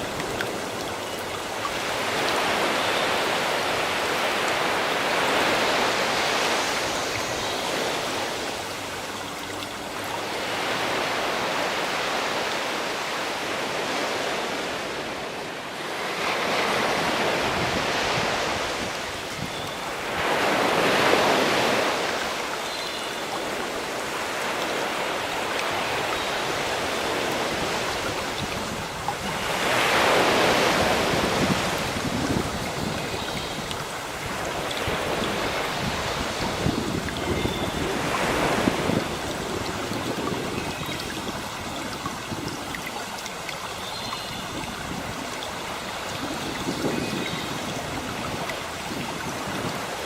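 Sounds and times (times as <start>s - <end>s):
sea waves washing: 0.0s - 50.0s.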